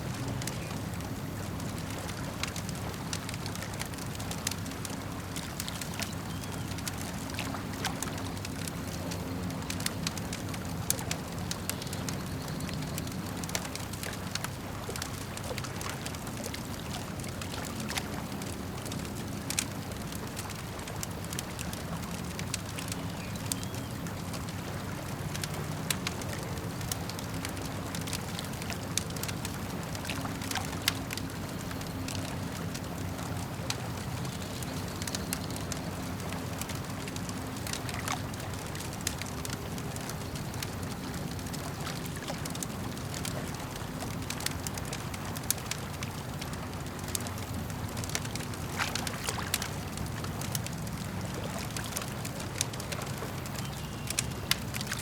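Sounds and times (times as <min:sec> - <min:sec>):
campfire crackling and popping: 0:00.0 - 0:55.0
lapping lake water: 0:00.0 - 0:55.0.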